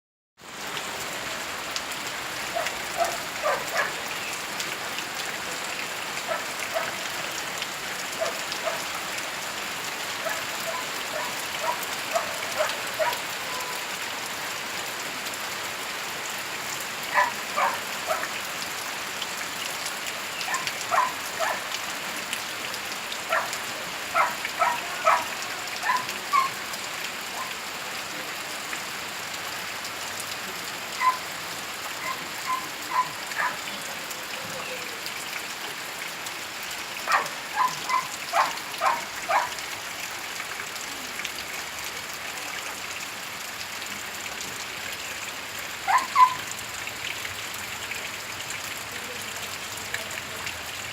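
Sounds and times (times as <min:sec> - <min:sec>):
steady rain: 0:00.4 - 0:50.9.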